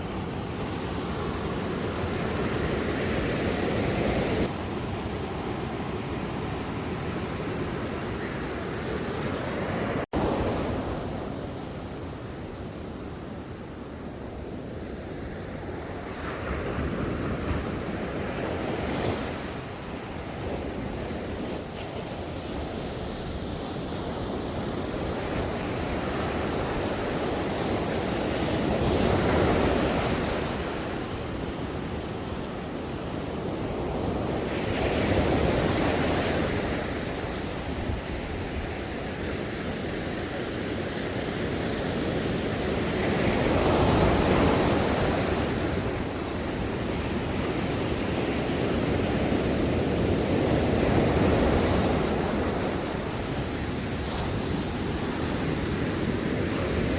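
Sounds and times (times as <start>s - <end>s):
ocean waves washing onto shore: 0.0s - 56.9s.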